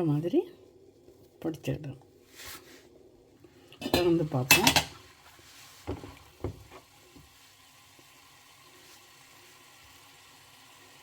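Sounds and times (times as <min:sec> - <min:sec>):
faint sizzle of beans in pan: 0:00.0 - 0:11.0.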